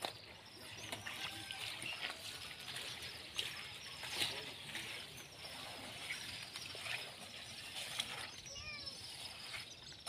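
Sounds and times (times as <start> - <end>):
bird chirping: 0.0 - 10.0
brush scraping wet floor: 0.8 - 10.0.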